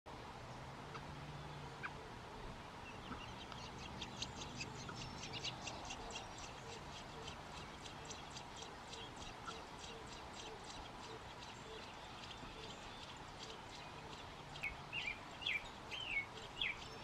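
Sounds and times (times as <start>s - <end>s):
bird nestlings begging peeps: 3.0s - 17.0s.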